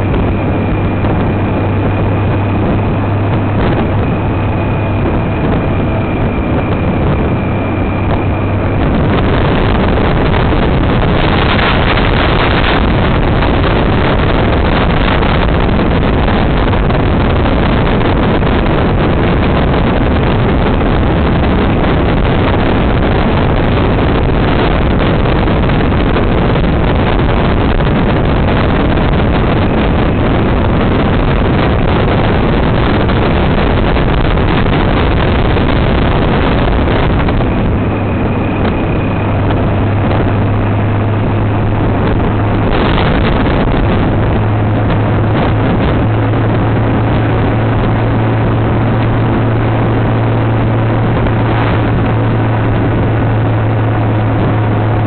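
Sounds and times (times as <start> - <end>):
motorcycle engine hum: 0.0 - 55.0
wind buffeting microphone: 0.0 - 55.0
wind rushing: 0.0 - 55.0.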